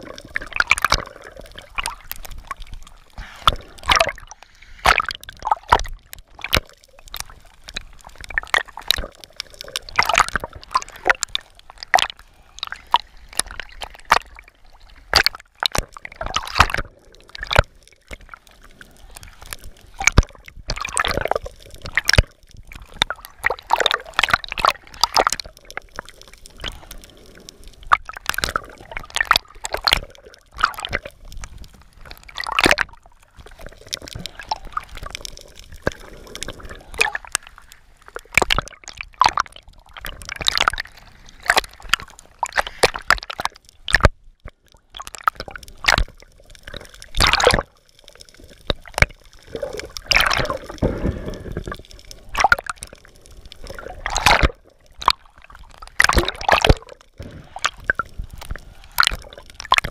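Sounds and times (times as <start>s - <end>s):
water sloshing and bubbling: 0.0s - 59.9s.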